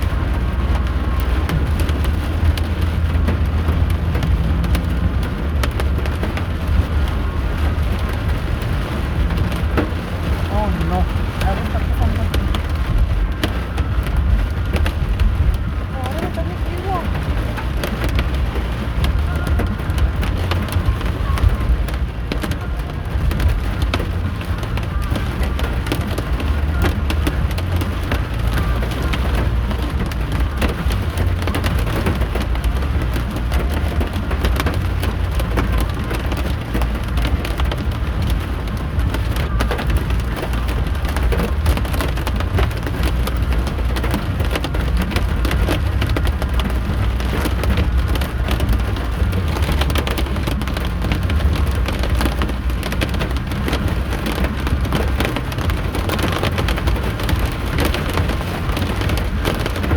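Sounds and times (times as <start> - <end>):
heavy rain beating on a car: 0.0 - 59.9
low road rumble: 0.0 - 59.9.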